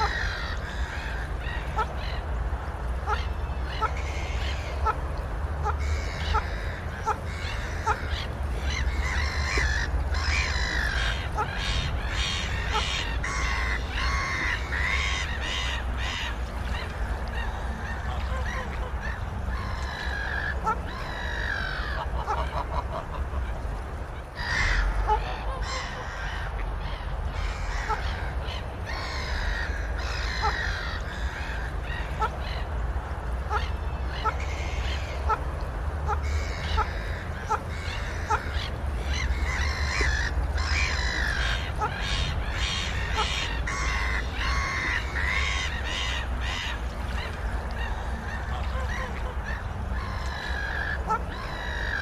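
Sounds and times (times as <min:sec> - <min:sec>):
waterfowl calling: 0:00.0 - 0:52.0.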